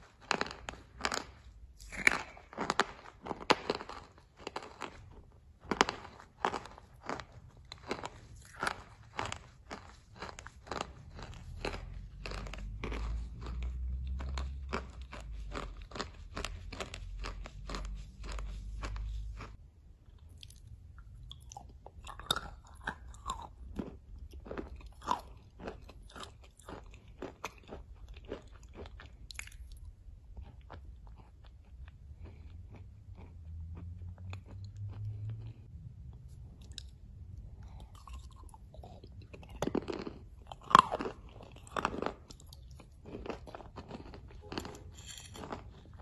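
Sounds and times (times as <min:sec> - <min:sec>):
crunching and chewing: 0:00.0 - 0:46.0.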